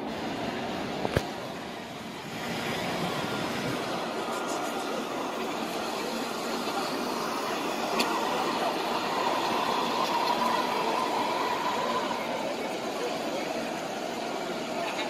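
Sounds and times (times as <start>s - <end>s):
murmur of a huge crowd: 0.0s - 15.0s.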